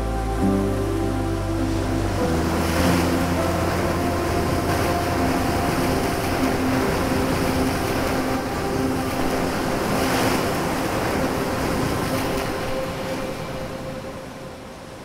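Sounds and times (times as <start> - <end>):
soft background music: 0.0 - 15.0
ocean waves breaking: 1.0 - 15.0.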